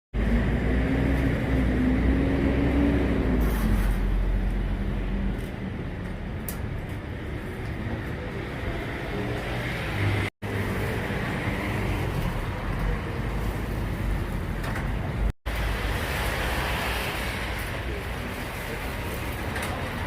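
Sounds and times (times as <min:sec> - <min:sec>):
street traffic rumble: 0:00.2 - 0:20.0.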